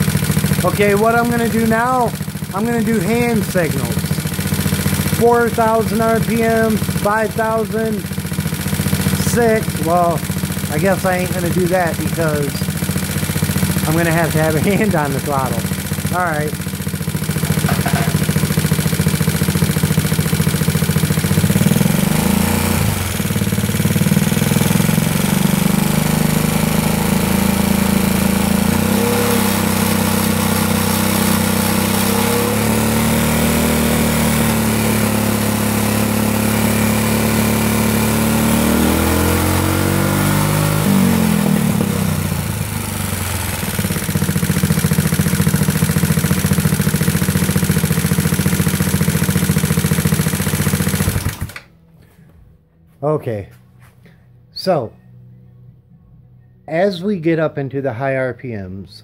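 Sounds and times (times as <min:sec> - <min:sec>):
scooter engine revving: 0:00.0 - 0:51.7.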